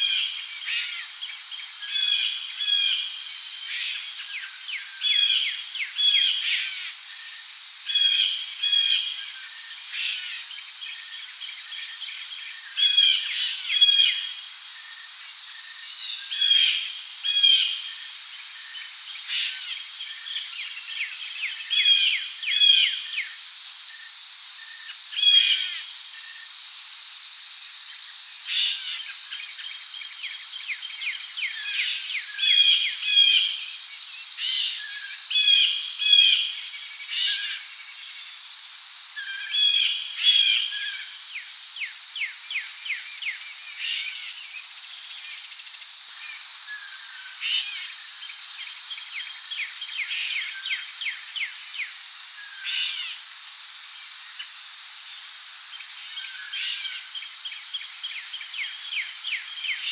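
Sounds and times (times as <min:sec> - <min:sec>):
crickets and insects droning: 0:00.0 - 0:59.9.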